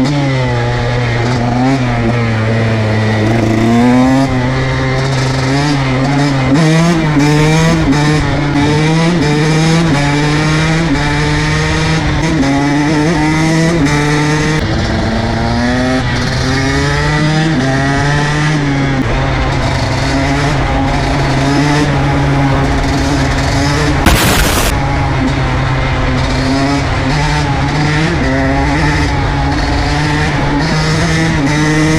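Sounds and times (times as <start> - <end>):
motocross engine accelerating: 0.1 - 31.9.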